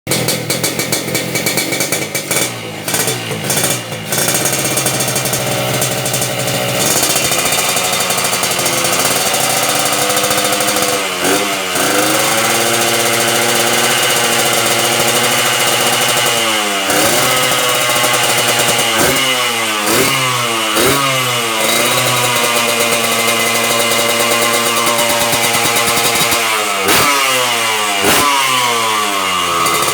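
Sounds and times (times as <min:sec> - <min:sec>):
two-stroke motorcycle engine revving: 0:00.1 - 0:29.9.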